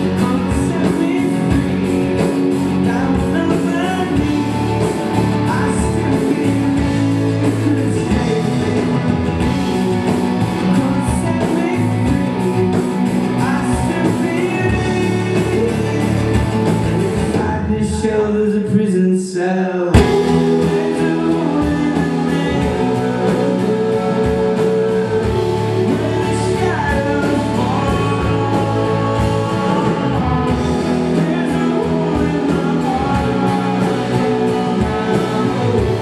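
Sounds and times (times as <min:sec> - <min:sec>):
person singing: 0:00.0 - 0:16.4, 0:17.2 - 0:36.0
rock band playing live: 0:00.0 - 0:19.0, 0:19.9 - 0:36.0.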